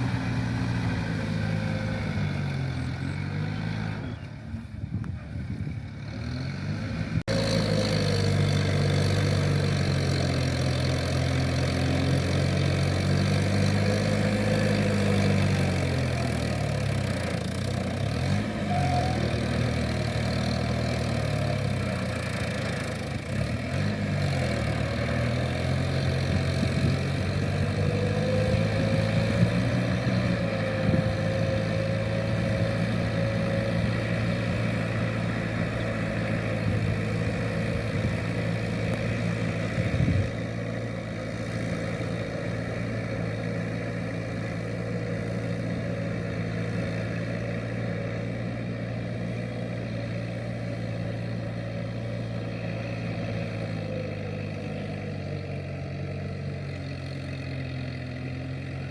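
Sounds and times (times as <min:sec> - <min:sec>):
tractor diesel engine under load: 0:00.0 - 0:58.9.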